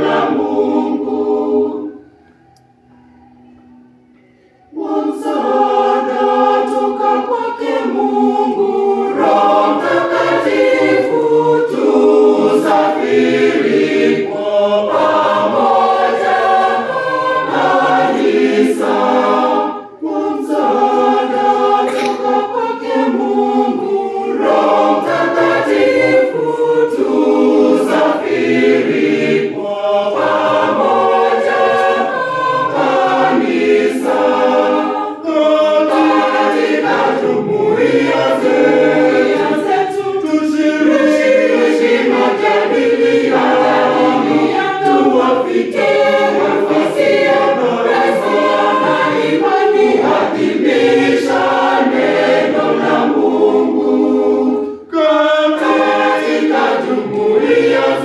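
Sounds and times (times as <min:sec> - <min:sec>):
church choir singing: 0:00.0 - 0:58.0.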